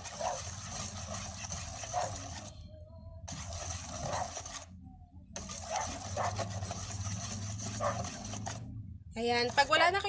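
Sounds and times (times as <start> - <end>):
batter scraping in a bowl: 0.0 - 2.6, 3.3 - 4.8, 5.4 - 10.0
steady low hum: 0.6 - 10.0.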